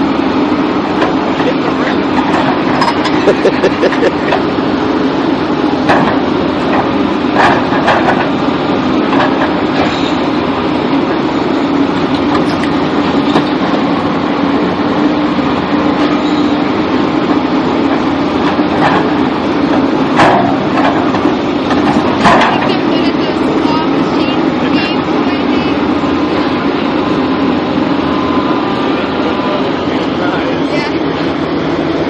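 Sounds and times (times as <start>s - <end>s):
vehicle rumbling in motion: 0.0s - 32.0s.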